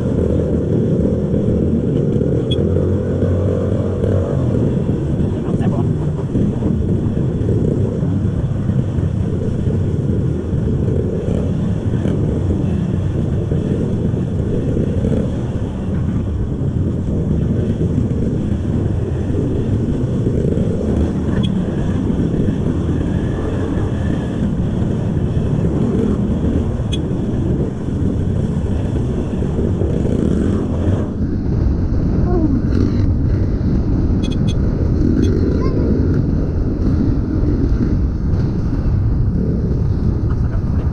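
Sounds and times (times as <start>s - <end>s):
motorcycle engine rumbling: 0.0s - 40.9s
wind on microphone: 0.0s - 40.9s.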